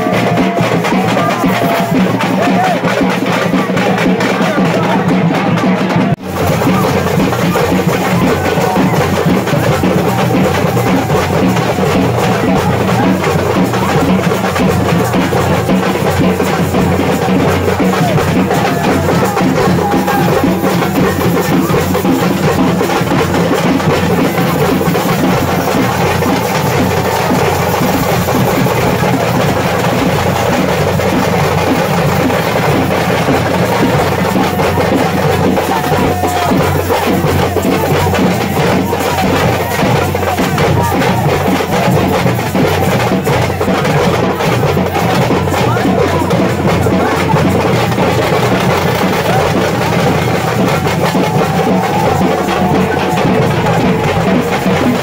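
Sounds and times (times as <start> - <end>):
loud steady drumming music: 0.0 - 55.0.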